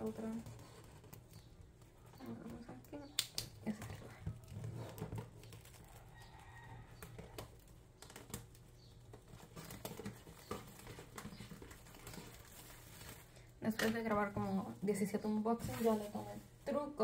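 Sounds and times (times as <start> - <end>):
cellophane crinkling and tearing: 0.0 - 13.9, 15.6 - 17.0.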